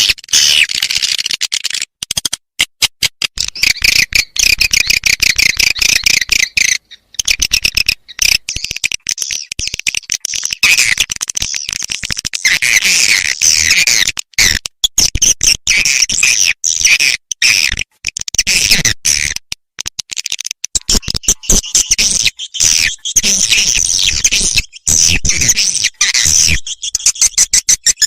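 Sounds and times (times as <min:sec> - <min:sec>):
recorded swiftlet calls: 0:00.0 - 0:02.4, 0:03.2 - 0:28.0.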